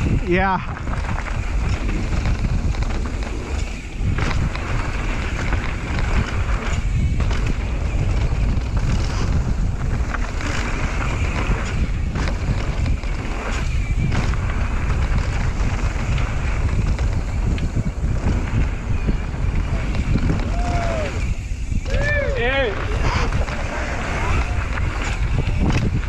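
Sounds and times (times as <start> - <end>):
bike clattering over bumps: 0.0 - 26.0
tyre noise on dirt: 0.0 - 26.0
wind buffeting microphone: 0.0 - 26.0.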